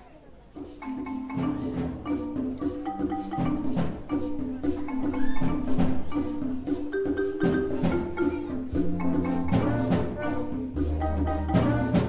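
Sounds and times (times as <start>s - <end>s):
mallet percussion and drums: 0.1s - 12.0s
wind band playing: 0.6s - 12.0s.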